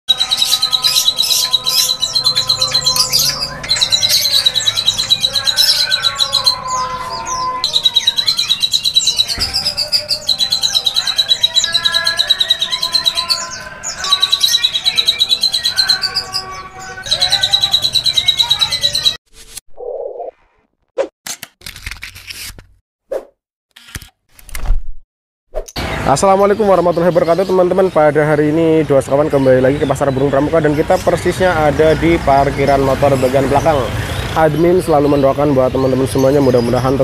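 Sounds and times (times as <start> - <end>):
birds whistling and chirping: 0.1 - 19.2, 25.8 - 37.0.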